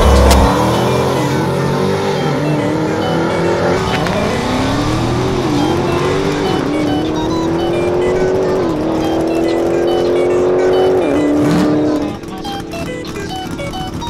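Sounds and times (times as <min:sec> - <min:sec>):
drag cars accelerating: 0:00.0 - 0:14.0.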